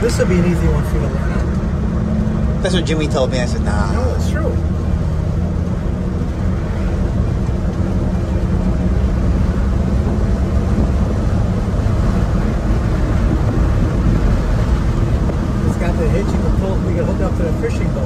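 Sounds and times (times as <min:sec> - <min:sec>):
engine droning: 0:00.0 - 0:18.0
tyre and road noise: 0:00.0 - 0:18.0.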